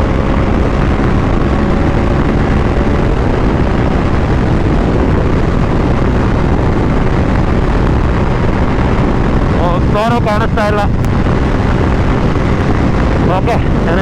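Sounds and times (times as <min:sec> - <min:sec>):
heavy wind rush on microphone: 0:00.0 - 0:14.0
motorcycle engine running: 0:00.0 - 0:14.0.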